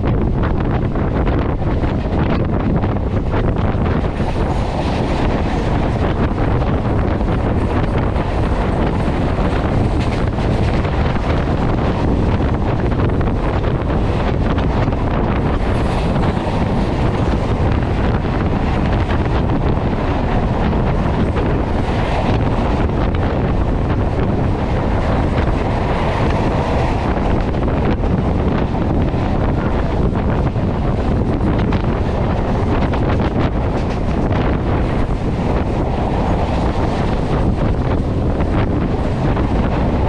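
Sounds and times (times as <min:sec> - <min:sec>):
train running on track: 0:00.0 - 0:40.0
wind buffeting microphone: 0:00.0 - 0:40.0.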